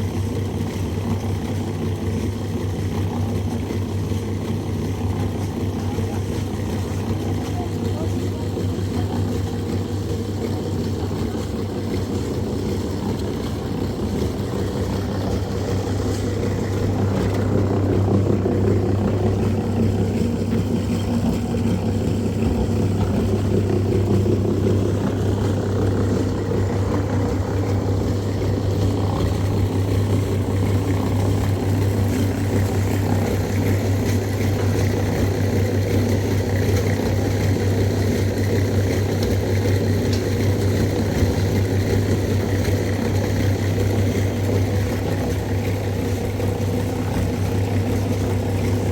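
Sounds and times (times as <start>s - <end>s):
engine running with low hum: 0.0s - 48.9s.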